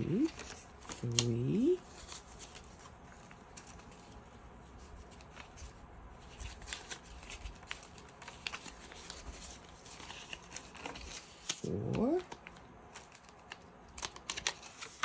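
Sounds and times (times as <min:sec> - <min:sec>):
paper bills rustling: 0:00.0 - 0:15.0.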